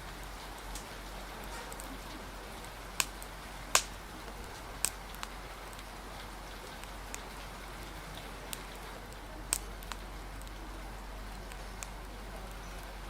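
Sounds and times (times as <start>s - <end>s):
rain hissing: 0.0s - 13.0s
wood fire crackling: 0.0s - 13.0s.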